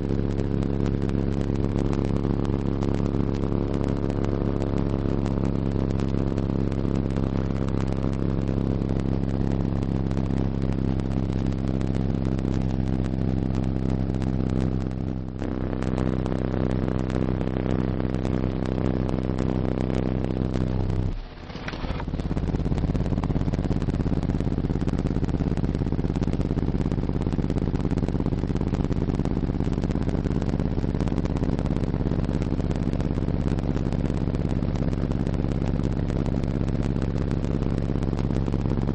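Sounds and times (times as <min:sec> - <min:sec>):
subwoofer bass tone droning: 0:00.0 - 0:38.9.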